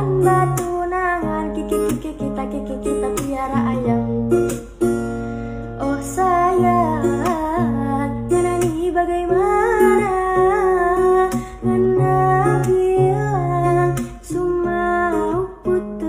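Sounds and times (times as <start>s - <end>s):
song with guitar and bass: 0.0s - 16.0s.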